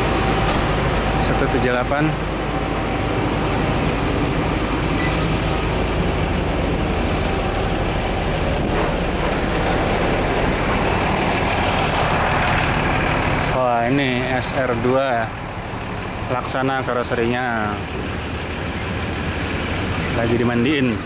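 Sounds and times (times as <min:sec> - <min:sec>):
diesel bus engine idling: 0:00.0 - 0:21.0.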